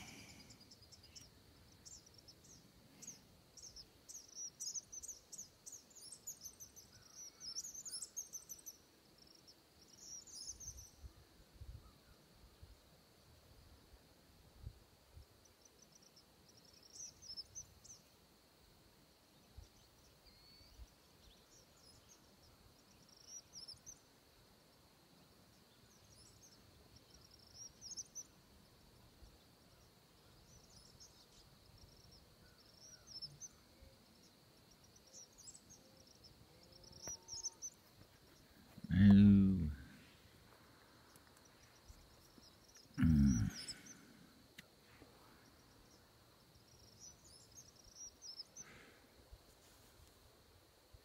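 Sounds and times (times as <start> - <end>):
high insect drone: 0.0 - 51.0
songbird chirping: 0.0 - 51.0.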